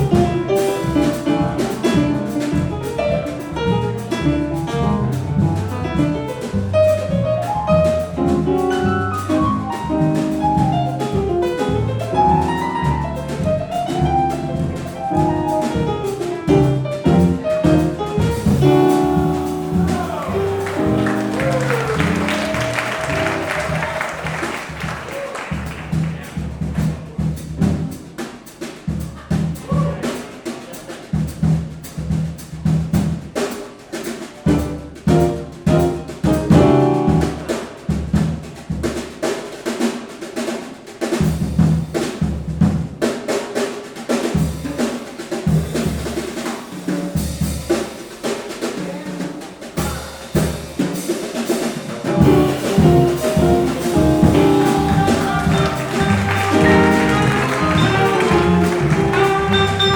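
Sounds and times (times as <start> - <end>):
live jazz combo playing: 0.0 - 59.9.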